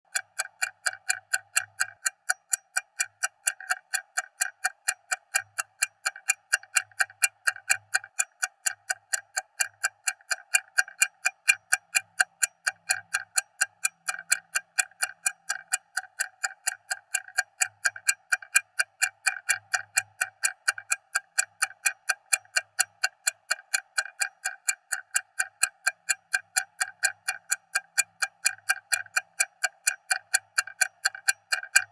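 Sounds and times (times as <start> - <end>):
stopwatch ticking: 0.1 - 31.9.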